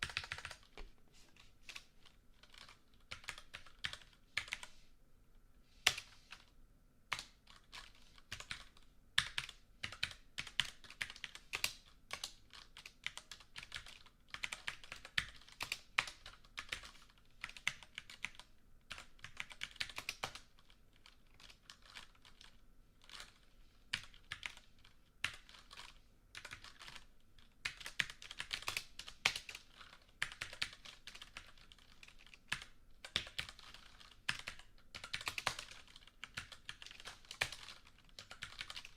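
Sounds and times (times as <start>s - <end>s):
computer keyboard typing: 0.0s - 0.9s, 1.7s - 4.7s, 5.8s - 6.5s, 7.1s - 38.9s.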